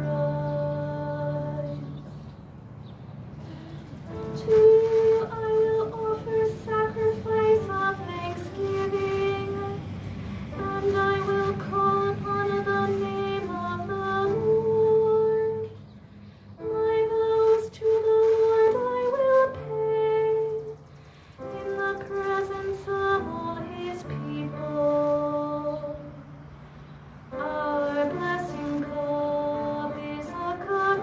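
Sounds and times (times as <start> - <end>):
slow hymn-like keyboard music: 0.0 - 31.0.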